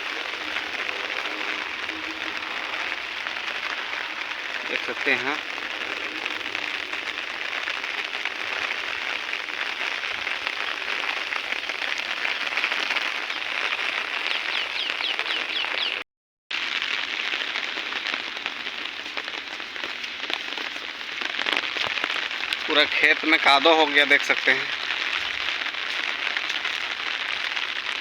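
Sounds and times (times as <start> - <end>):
heavy rain falling: 0.0 - 15.9, 16.6 - 28.0.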